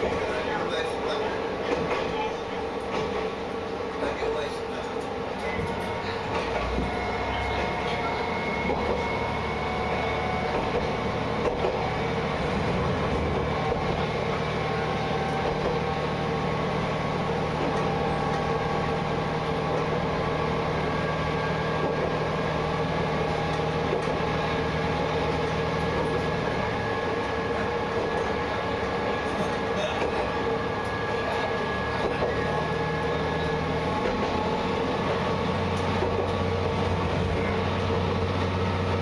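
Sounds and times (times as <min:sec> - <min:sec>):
wheel and rail noise: 0:00.0 - 0:39.0
diesel engine drone: 0:03.6 - 0:39.0.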